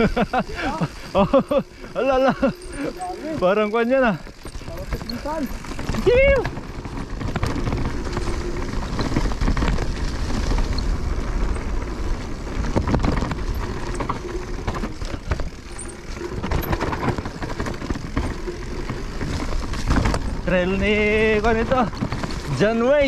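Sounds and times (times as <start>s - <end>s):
bike rattling over bumps: 0.0s - 23.0s
bike tyres on dirt trail: 0.0s - 23.0s.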